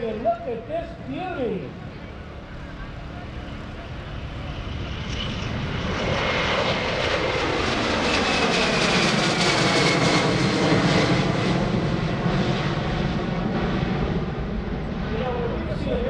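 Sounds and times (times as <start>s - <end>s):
jet climbing after takeoff: 0.0s - 16.0s.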